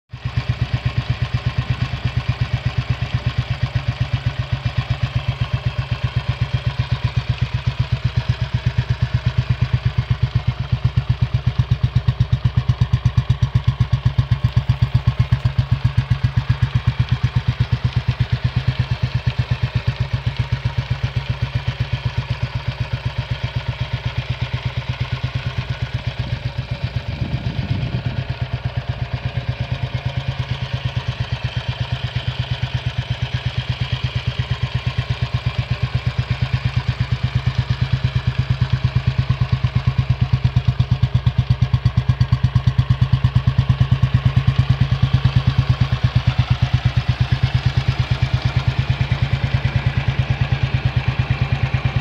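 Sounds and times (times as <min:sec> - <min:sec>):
motorcycle engine idling: 0:00.1 - 0:52.0.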